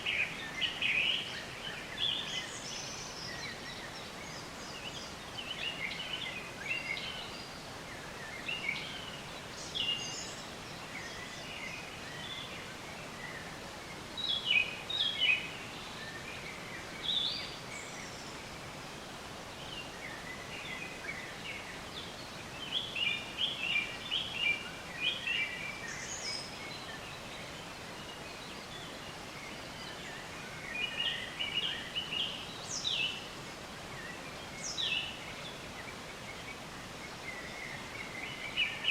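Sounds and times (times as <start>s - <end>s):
songbirds chirping and trilling: 0.0s - 38.9s
steady background hiss: 0.0s - 38.9s.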